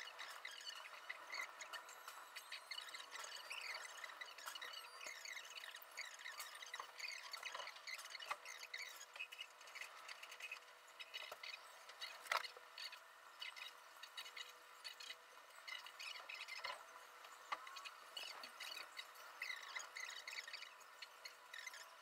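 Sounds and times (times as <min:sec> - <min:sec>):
faint steady hum: 0:00.0 - 0:22.0
small birds chirping: 0:00.0 - 0:22.0.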